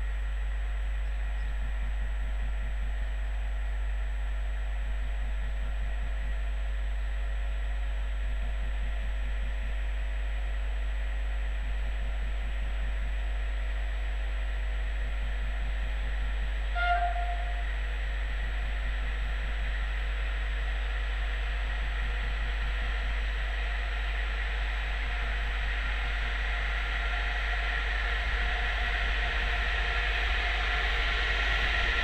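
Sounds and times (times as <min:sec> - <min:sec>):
electric train low hum: 0:00.0 - 0:32.0.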